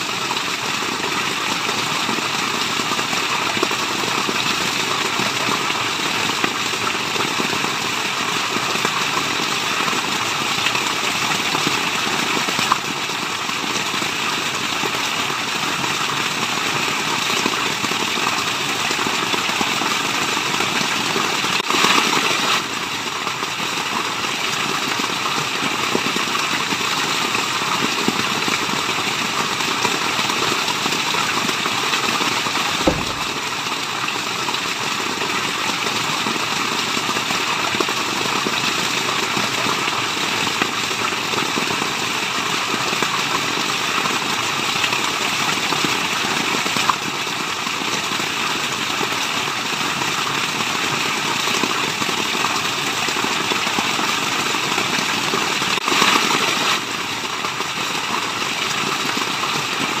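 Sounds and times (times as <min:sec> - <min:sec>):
water rushing: 0:00.0 - 1:00.0.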